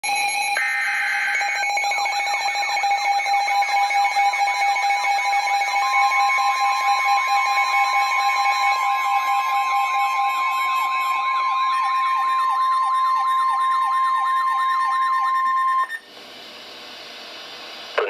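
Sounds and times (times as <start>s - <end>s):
siren-like electronic sweeps: 0.1s - 16.0s
steady electronic tones: 0.2s - 15.8s
screeching data burst: 0.6s - 16.0s.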